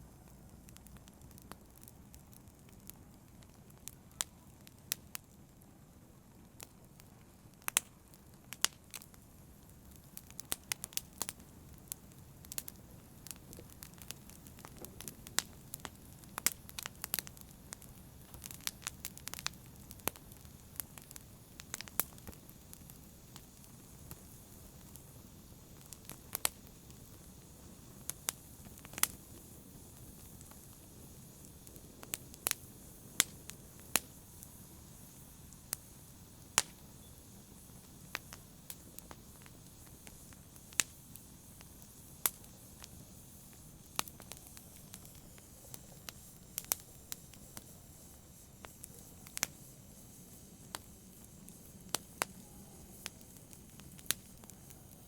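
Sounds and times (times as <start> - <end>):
low hiss of burning: 0.0 - 55.0
wood fire crackling and popping: 0.0 - 55.0.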